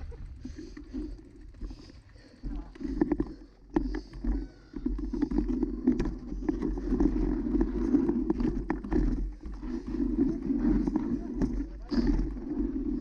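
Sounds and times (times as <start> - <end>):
bike clicking and rattling: 0.0 - 13.0
bike tyres rumbling on dirt: 0.0 - 13.0.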